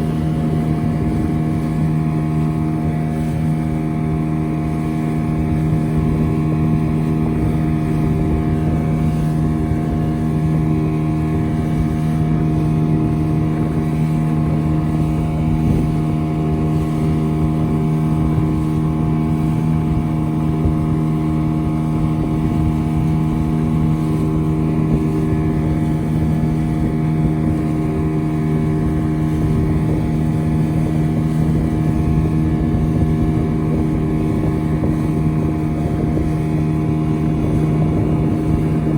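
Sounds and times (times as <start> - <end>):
boat engine droning: 0.0 - 38.9
wind on microphone: 0.0 - 38.9.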